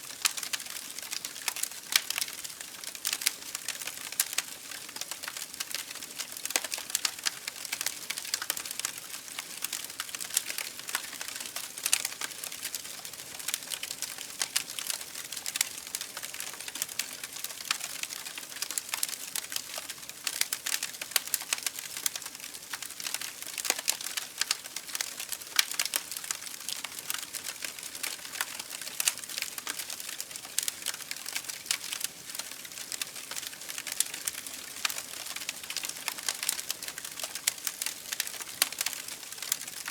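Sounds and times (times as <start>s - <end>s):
campfire crackling: 0.2s - 39.9s.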